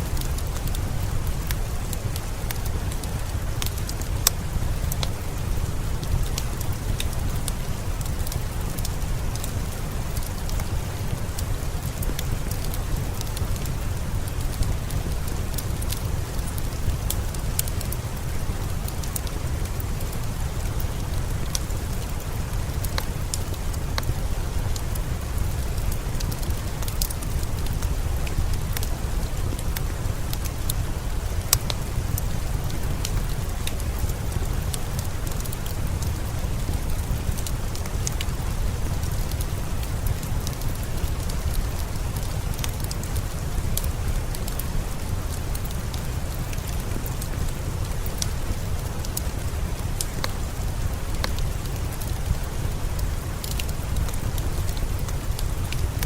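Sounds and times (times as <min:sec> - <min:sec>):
fireplace crackling: 0:00.0 - 0:56.0
steady rain: 0:00.0 - 0:56.0.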